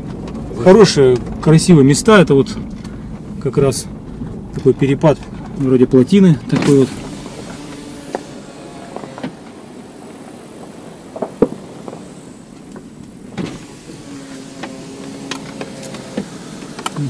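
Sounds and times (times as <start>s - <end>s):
low engine hum: 0.0s - 17.0s
suspension knocks: 0.0s - 17.0s
tyre noise on dirt road: 0.0s - 17.0s.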